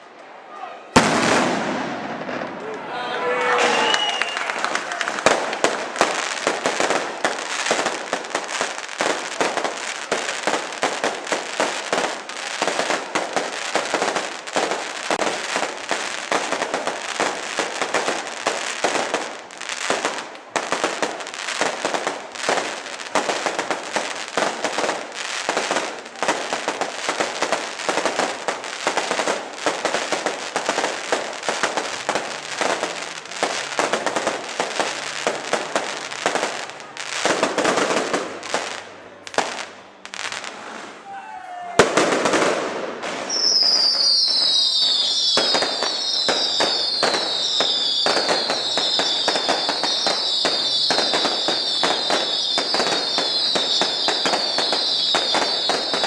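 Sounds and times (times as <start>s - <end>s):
fireworks cracking and banging: 0.9s - 56.0s.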